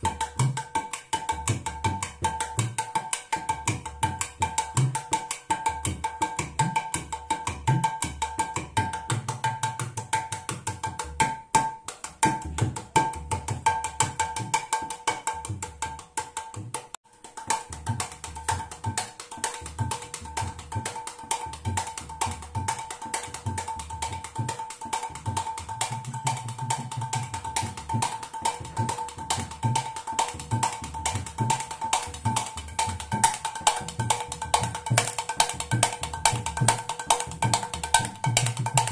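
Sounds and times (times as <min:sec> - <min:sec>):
hand drum fast rhythm: 0:00.0 - 0:38.9.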